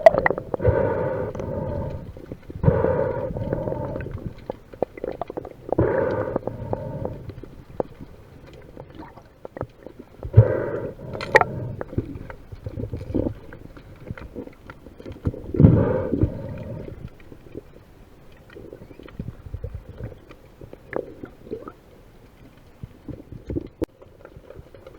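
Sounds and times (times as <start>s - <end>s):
muffled sloshing underwater water: 0.0s - 24.9s
small clicks and crackles: 0.0s - 24.9s.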